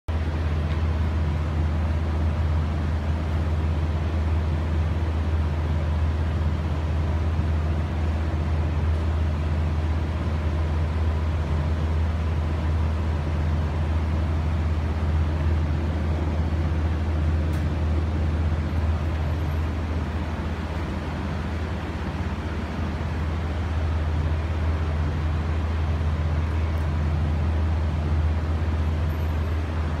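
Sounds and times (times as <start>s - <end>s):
exhaust fan droning: 0.1s - 30.0s.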